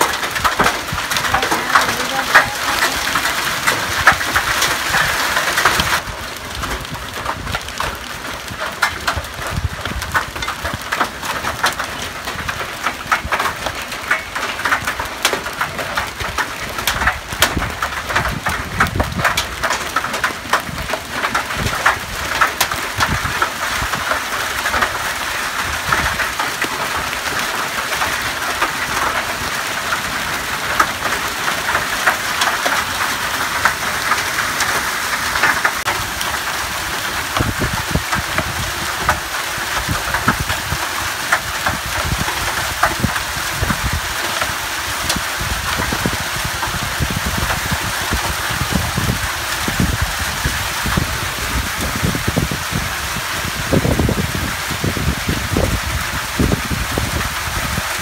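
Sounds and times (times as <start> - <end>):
hail ticking: 0.0 - 58.0
heavy rain hissing: 0.0 - 58.0.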